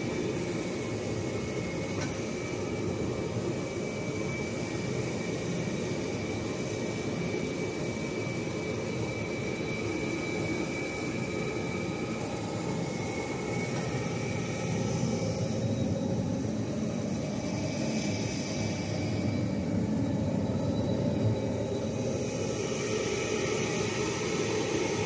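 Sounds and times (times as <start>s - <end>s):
high-pitched whine: 0.0s - 25.0s
machinery whooshing hum: 0.0s - 25.0s.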